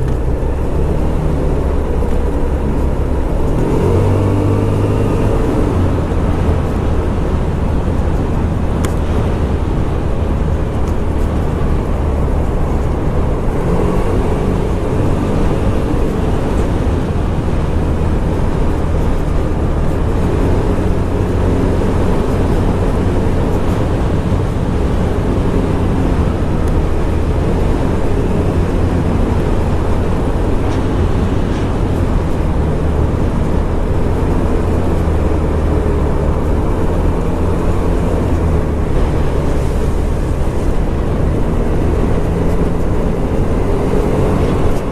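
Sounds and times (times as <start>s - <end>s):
scooter engine running: 0.0s - 44.9s
wind and road noise: 0.0s - 44.9s.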